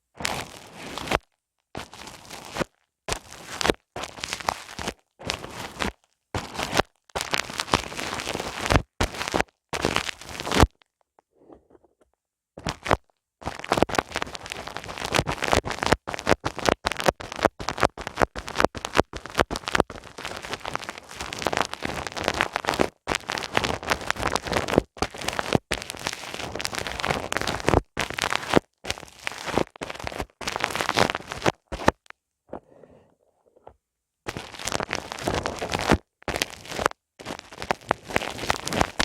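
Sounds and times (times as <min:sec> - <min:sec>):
crackling and rubbing on microphone: 0:00.0 - 0:39.0.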